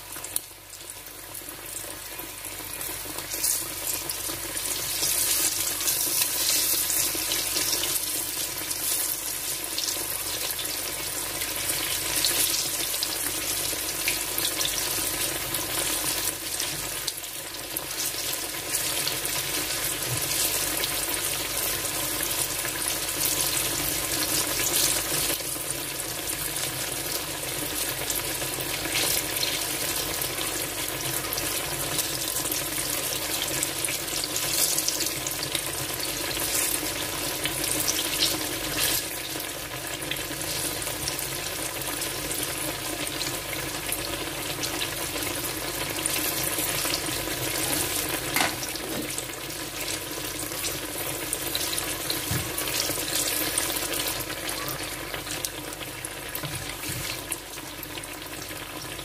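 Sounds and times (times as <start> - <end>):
food frying in hot oil: 0.0 - 59.0.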